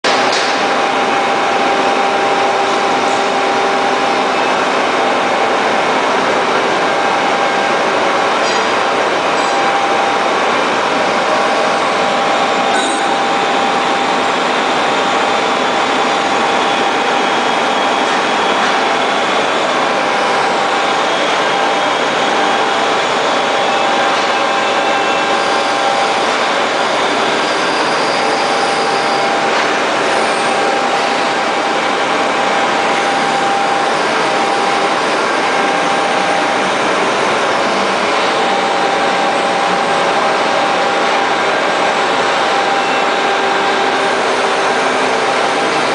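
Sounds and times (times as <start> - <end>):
machine running with whine: 0.1 - 45.9.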